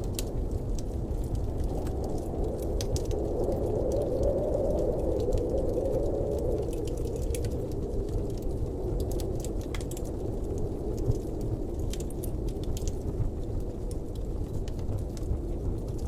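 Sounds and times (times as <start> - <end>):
blizzard wind blowing: 0.0 - 16.0
light ticks and crackles: 0.0 - 16.0.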